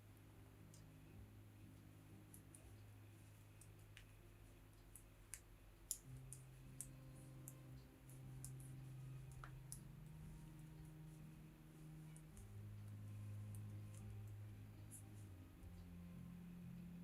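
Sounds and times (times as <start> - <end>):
soft background music: 0.0 - 17.0
knitting needles clicking: 1.8 - 16.0.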